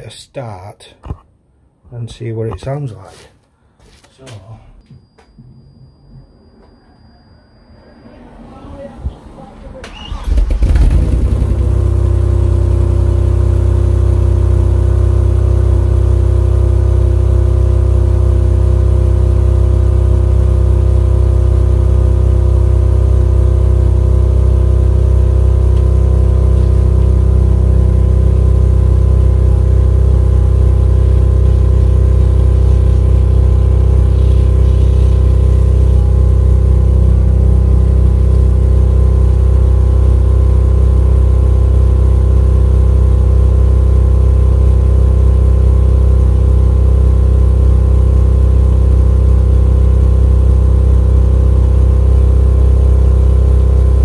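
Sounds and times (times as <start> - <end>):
car engine idling: 10.0 - 54.0
exhaust blowing: 10.1 - 54.0.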